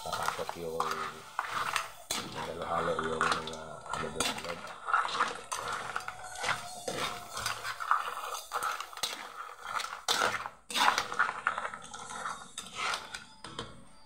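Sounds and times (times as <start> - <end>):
metal spoon scraping a wok: 0.0 - 13.6.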